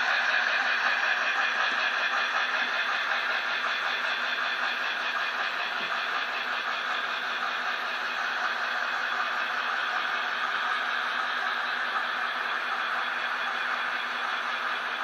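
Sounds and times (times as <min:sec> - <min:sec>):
model train wheels whirring: 0:00.0 - 0:15.0.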